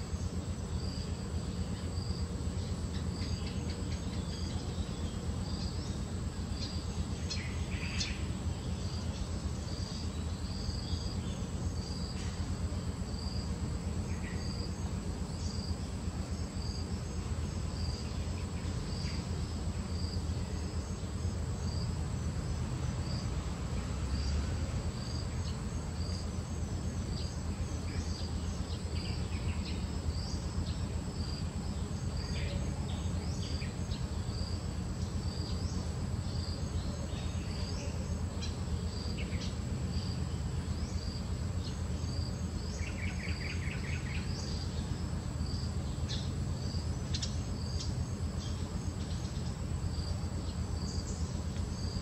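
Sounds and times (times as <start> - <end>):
high insect drone: 0.0 - 52.0
insects chirping: 0.0 - 52.0
low steady rumble: 0.0 - 52.0.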